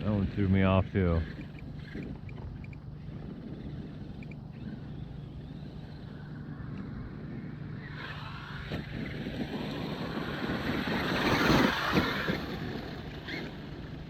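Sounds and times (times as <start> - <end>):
rc truck motor whine: 0.0 - 14.0.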